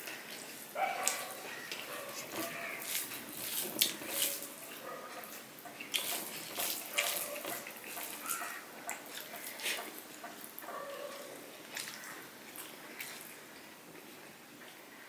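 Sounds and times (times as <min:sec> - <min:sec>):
wet squelches of hand mixing food: 0:00.0 - 0:14.1.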